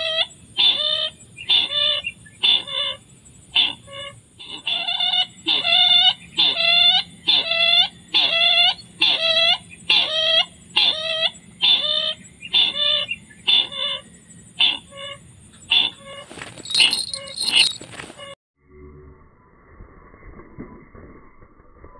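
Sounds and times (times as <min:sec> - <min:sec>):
bird calling with harsh repeated notes: 0:00.0 - 0:18.4.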